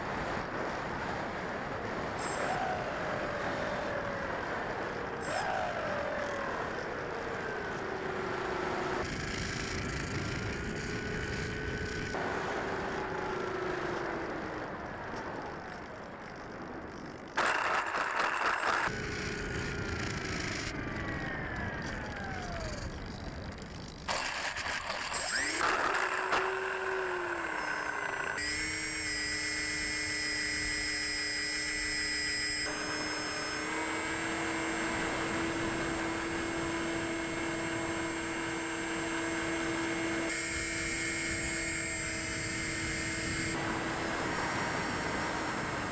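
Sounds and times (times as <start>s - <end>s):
model plane motor whine: 2.2s - 45.9s.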